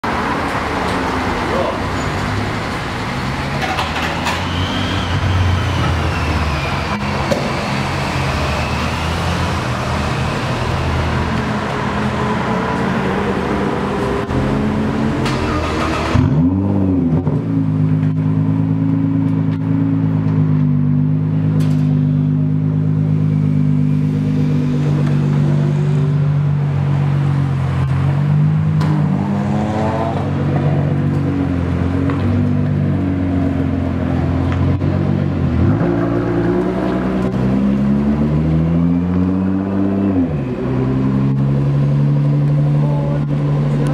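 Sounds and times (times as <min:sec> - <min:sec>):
car engine starting and revving: 0:00.4 - 0:43.9.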